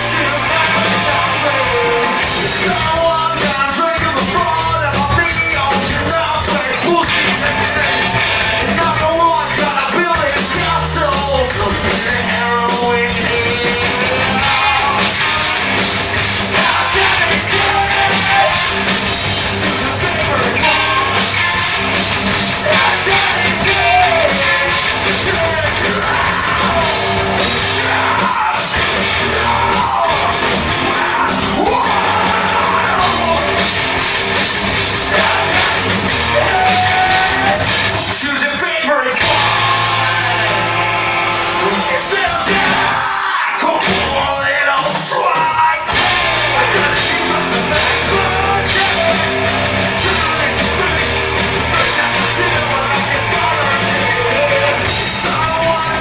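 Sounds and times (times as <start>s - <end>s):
live rock band playing: 0.0s - 56.0s
person singing and yelling: 0.0s - 56.0s.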